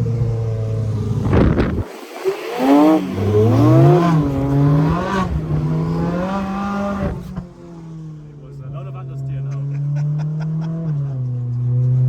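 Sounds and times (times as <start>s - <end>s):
exhaust crack: 0.0s - 12.0s
sports car engine revving: 0.0s - 12.0s.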